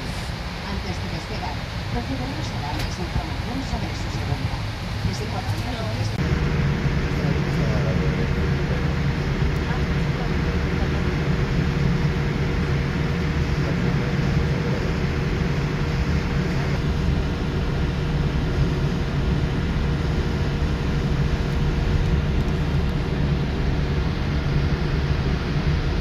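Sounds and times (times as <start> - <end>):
aircraft engine rumble: 0.0 - 26.0
cabin air rush: 0.0 - 26.0
constant humming note: 0.0 - 26.0.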